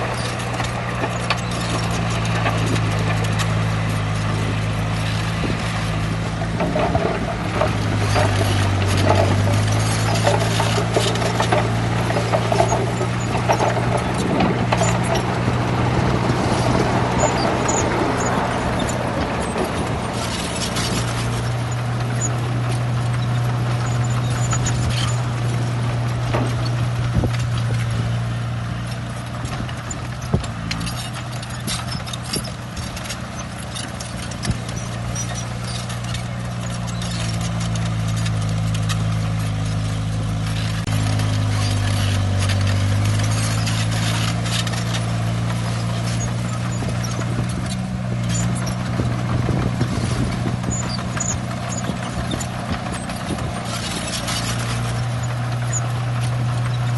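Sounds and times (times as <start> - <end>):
bulldozer diesel engine: 0.0 - 56.9.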